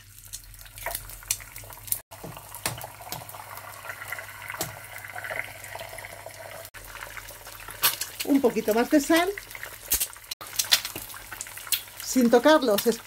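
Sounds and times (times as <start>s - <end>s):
oil sizzling with pops: 0.0s - 13.0s.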